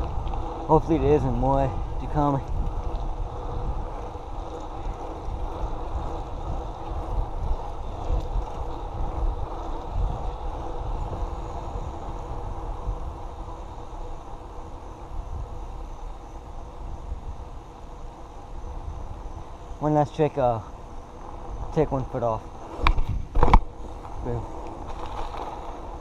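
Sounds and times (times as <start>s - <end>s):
bike tyres rolling on wet asphalt: 0.0s - 26.0s
wind buffeting microphone: 0.0s - 26.0s.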